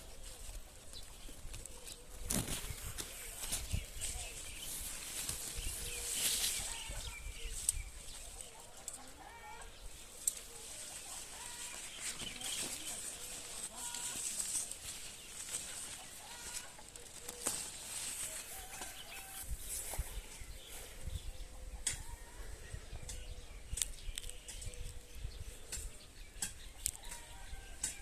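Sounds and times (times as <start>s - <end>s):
chickens clucking: 1.2s - 28.0s.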